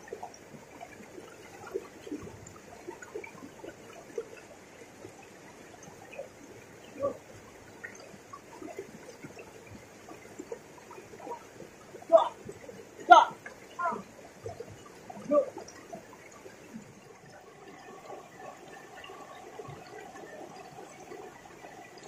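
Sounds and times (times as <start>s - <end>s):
water plinks and splashes: 0.0s - 22.0s
river water rushing: 0.5s - 22.0s.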